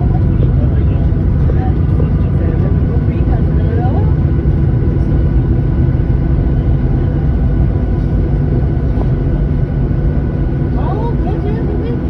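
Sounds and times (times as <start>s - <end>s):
faint engine whine: 0.0s - 12.0s
jet cabin engine rumble: 0.0s - 12.0s.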